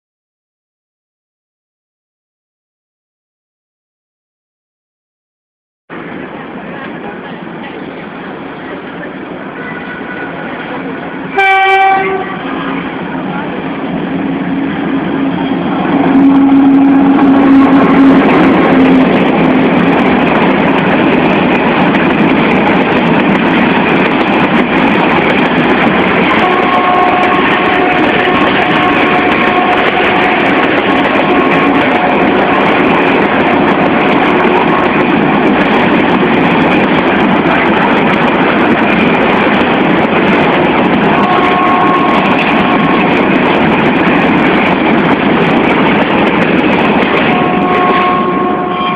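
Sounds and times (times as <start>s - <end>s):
diesel locomotive passing: 5.9s - 48.9s
freight train rail rumble: 5.9s - 48.9s.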